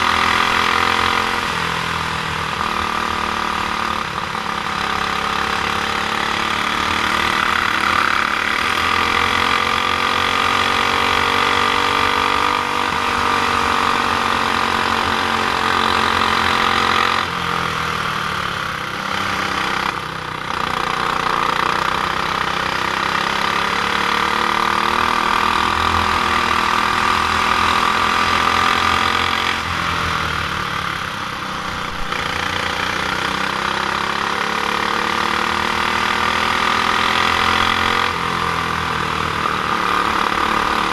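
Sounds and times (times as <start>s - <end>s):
kart engine running hard: 0.0s - 40.9s.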